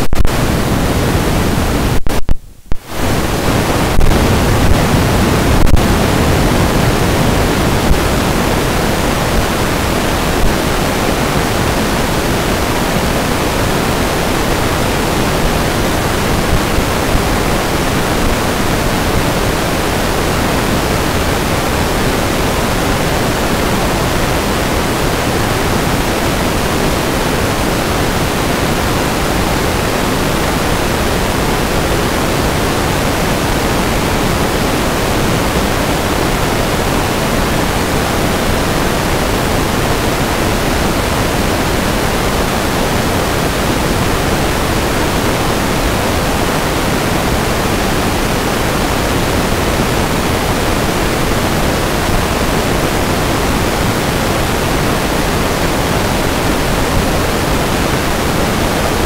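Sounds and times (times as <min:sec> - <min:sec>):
static hiss: 0:00.0 - 0:59.0.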